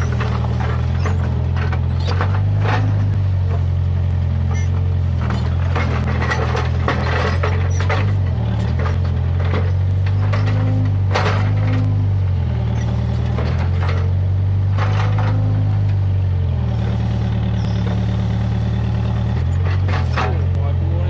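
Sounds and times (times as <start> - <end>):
clanks and squeaks: 0.0 - 14.2, 14.8 - 15.6, 16.6 - 20.6
diesel engine running: 0.0 - 21.0.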